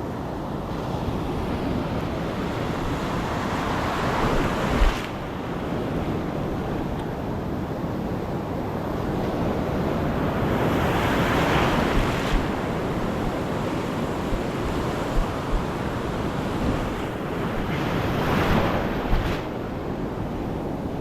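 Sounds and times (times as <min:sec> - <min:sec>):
ocean waves washing on shore: 0:00.0 - 0:21.0
wind buffeting microphone: 0:00.5 - 0:21.0.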